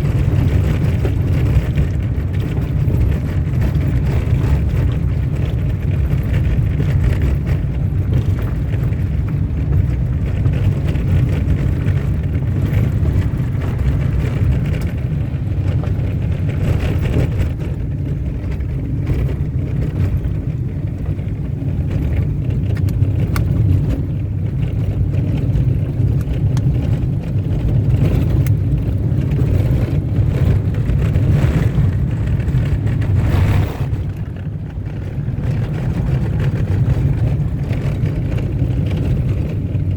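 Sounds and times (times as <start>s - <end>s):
car driving on dirt road: 0.0s - 39.9s.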